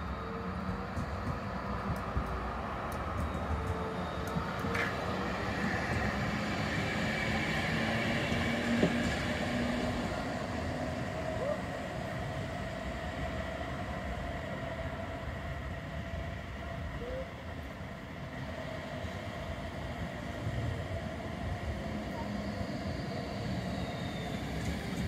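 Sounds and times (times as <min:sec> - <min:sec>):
tram rumbling past: 0:00.0 - 0:25.0.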